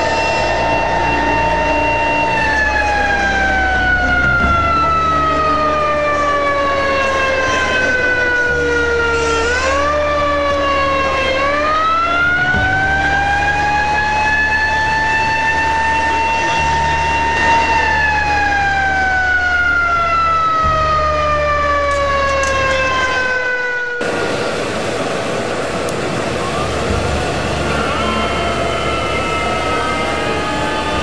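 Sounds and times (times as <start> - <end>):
fire truck siren wailing: 0.0 - 31.0.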